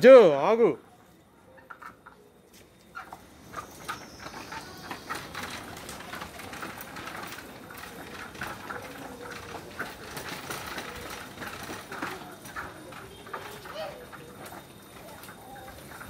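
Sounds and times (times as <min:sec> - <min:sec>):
tricycle rattling over stone paving: 0:00.2 - 0:16.0.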